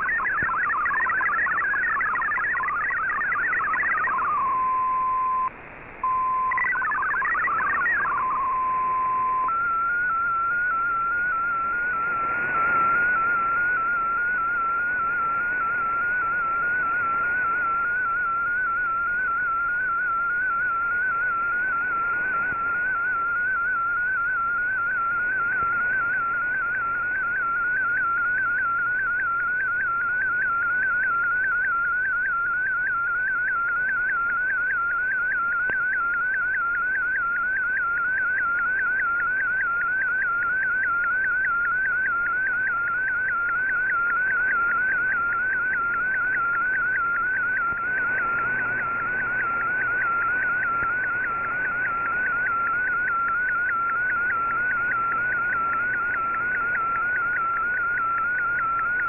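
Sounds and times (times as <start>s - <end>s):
receiver hiss: 0.0s - 59.0s
warbling data tone: 0.0s - 59.0s.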